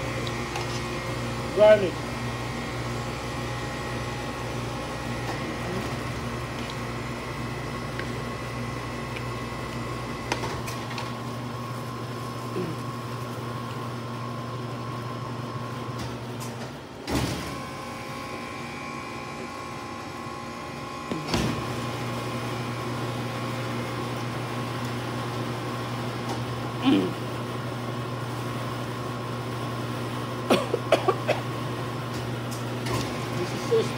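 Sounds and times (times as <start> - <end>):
machine humming: 0.0 - 33.9.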